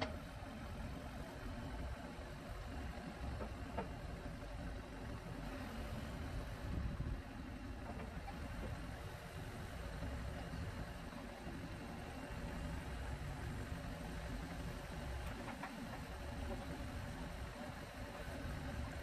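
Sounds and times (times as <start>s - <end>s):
backhoe engine running: 0.0s - 19.0s.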